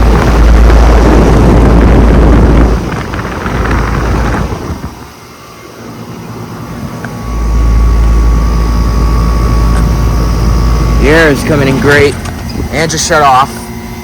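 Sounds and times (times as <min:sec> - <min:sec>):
air conditioner fan rumble: 0:00.0 - 0:14.0.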